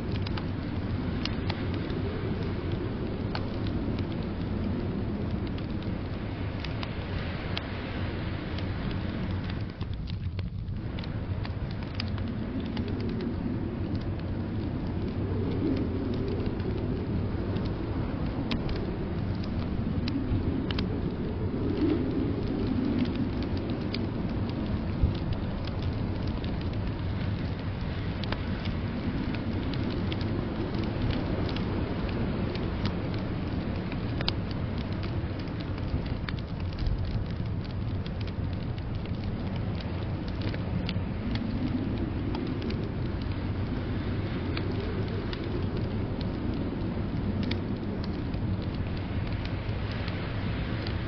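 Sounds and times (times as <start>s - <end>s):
blizzard wind rushing: 0.0s - 51.0s
wood fire crackling and popping: 0.0s - 51.0s.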